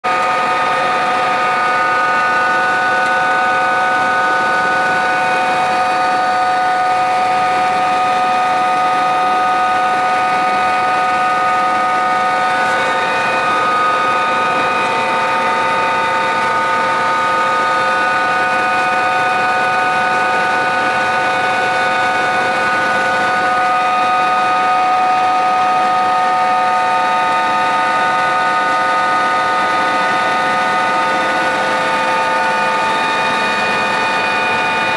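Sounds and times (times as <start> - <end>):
helicopter turbine whine from cabin: 0.0 - 34.9.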